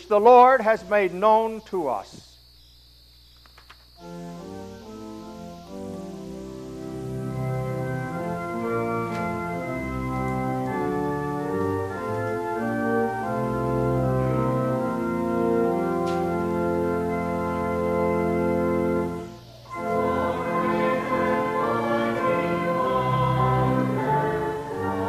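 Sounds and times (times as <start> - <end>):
church organ chords: 0.0 - 3.3, 3.9 - 25.0.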